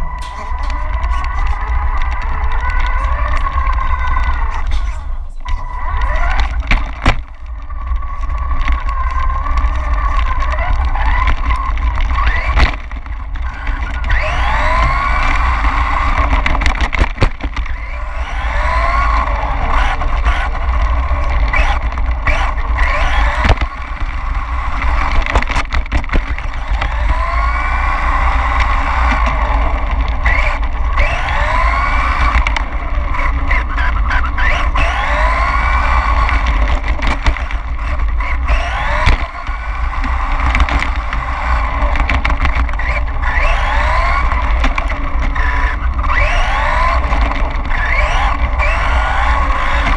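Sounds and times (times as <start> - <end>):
low rumble of moving camera: 0.0 - 49.9
rc car motor whining: 0.0 - 49.9.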